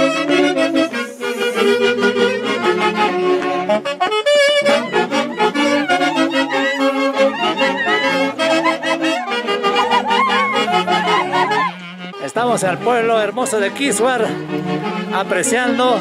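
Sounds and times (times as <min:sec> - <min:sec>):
bass line: 0:00.0 - 0:15.0
saxophones and clarinets melody: 0:00.0 - 0:16.0.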